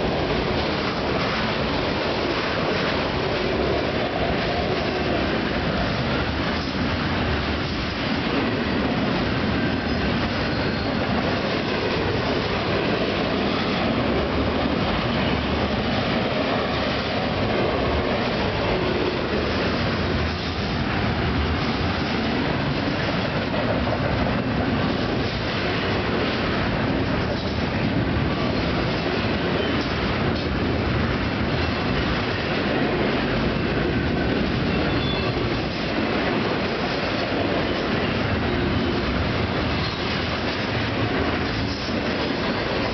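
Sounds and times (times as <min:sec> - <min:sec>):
freight train rolling past: 0:00.0 - 0:42.9
steel wheels clattering on rails: 0:00.0 - 0:42.9.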